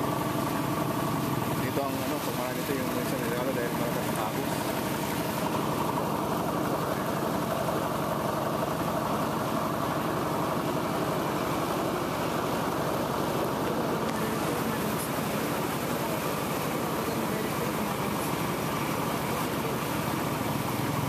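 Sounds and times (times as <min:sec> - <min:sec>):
vehicle engine running: 0:00.0 - 0:21.0
rushing floodwater: 0:00.2 - 0:21.0.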